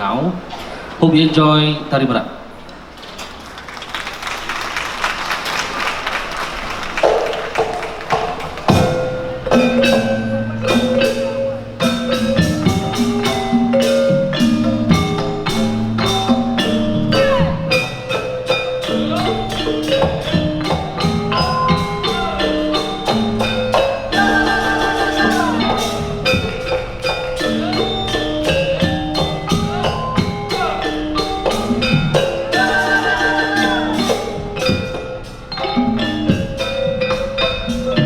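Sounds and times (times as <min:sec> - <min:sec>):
gamelan ensemble playing: 0:06.7 - 0:38.0.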